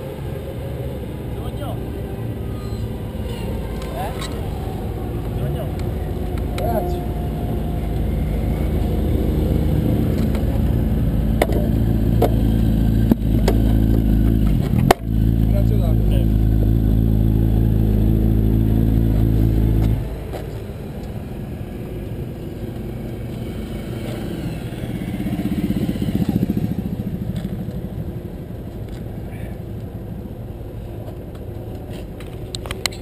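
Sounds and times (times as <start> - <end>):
another engine passing: 0.0 - 32.9
motorcycle engine idling: 2.8 - 21.8, 22.4 - 31.7.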